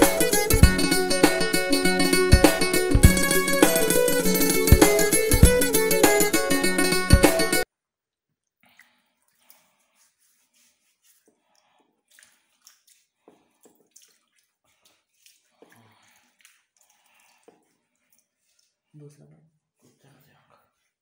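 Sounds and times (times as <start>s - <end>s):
water splashing and dripping: 0.0s - 6.5s, 8.6s - 19.0s.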